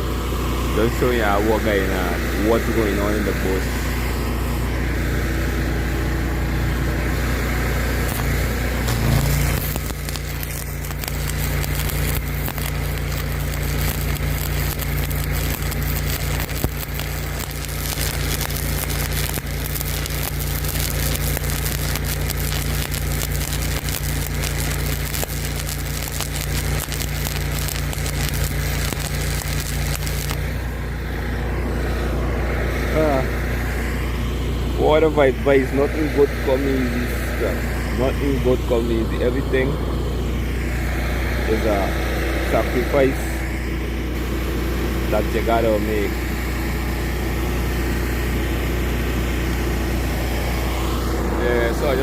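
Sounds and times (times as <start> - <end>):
arc welding crackle: 0.0 - 34.2, 40.4 - 52.0
engine running: 0.0 - 52.0.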